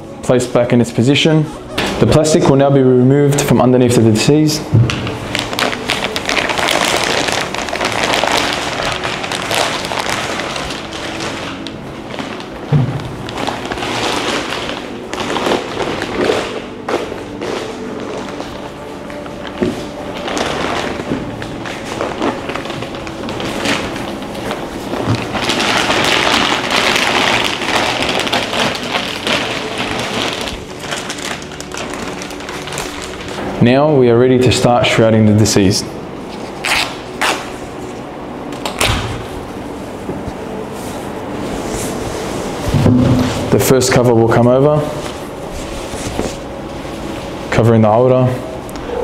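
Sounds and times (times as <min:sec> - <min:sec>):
plastic sheet crinkling: 0:03.4 - 0:34.8, 0:35.4 - 0:49.0.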